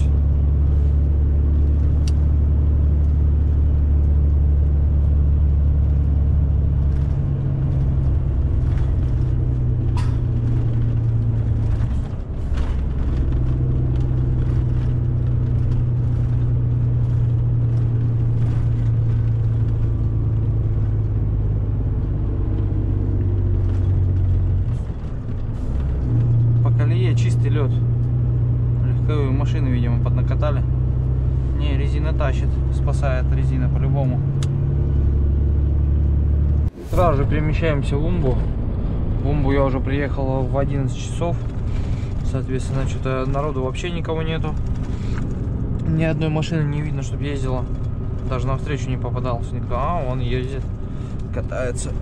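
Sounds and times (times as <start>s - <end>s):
truck diesel engine pulling uphill: 0.0s - 52.0s.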